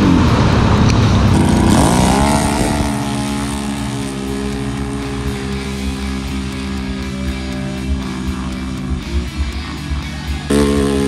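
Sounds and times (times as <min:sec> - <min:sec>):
background music: 0:00.0 - 0:11.0
race vehicle engine at full throttle: 0:00.0 - 0:11.0.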